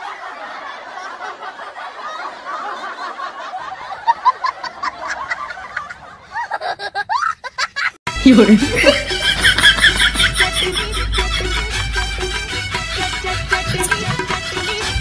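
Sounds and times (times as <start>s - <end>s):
crowd laughing and chattering: 0.0s - 7.5s, 8.2s - 12.1s, 13.0s - 14.9s.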